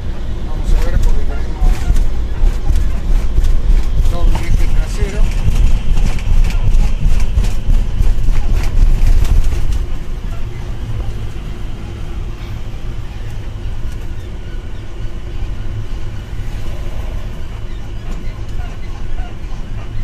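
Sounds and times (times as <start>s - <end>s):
truck road and engine rumble: 0.0s - 20.0s.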